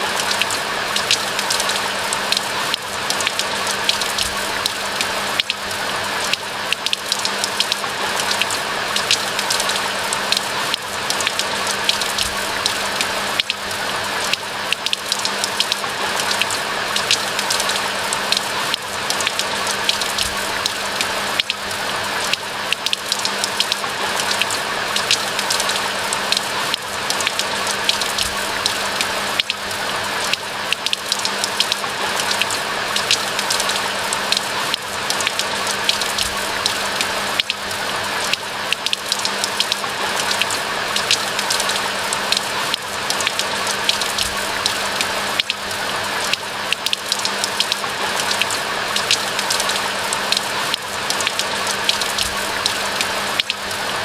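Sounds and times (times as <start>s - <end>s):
rain falling on trees: 0.0s - 54.0s.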